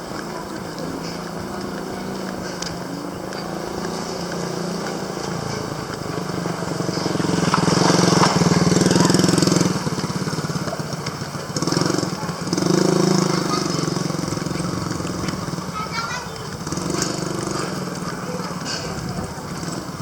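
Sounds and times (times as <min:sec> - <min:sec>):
vehicle engine passing: 0:00.0 - 0:20.0.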